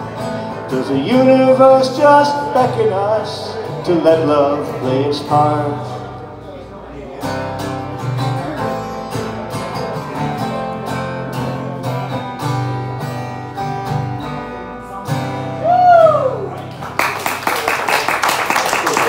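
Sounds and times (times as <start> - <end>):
acoustic guitars strumming: 0.0 - 17.1.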